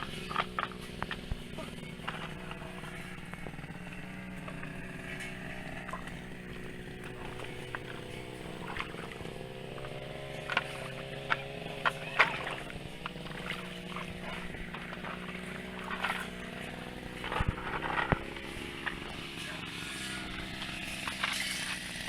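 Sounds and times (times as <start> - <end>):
sharp clacks and knocks: 0.0 - 22.0.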